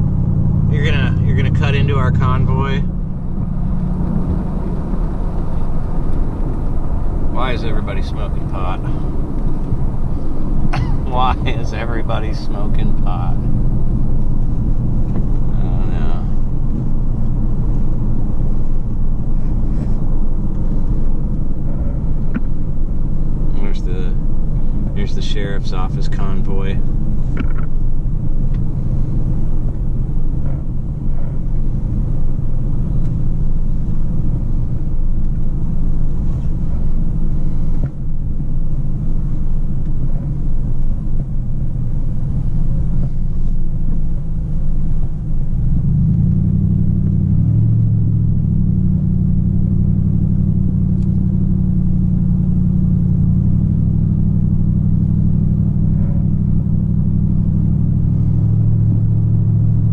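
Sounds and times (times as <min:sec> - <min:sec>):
engine and tyre noise in car: 0:00.0 - 0:59.9.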